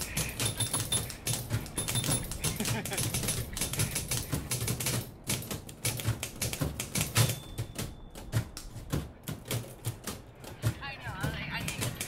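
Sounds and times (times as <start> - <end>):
typewriter keys clacking: 0.0 - 10.8.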